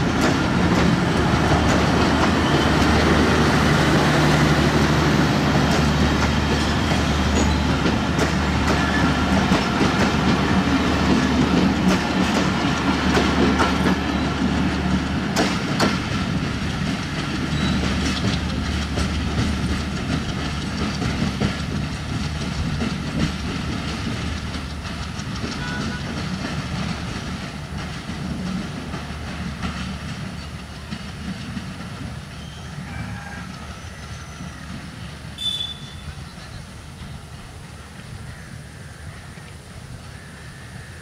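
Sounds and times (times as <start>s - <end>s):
train wheels clattering on track: 0.0s - 41.0s.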